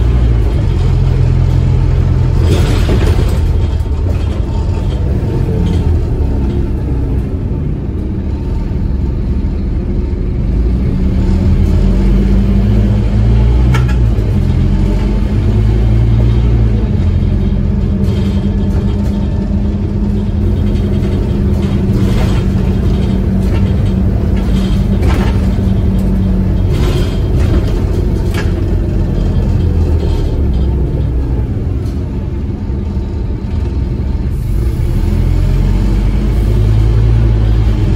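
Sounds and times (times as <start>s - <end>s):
bus body rattling: 0.0s - 37.9s
bus diesel engine rumble: 0.0s - 37.9s.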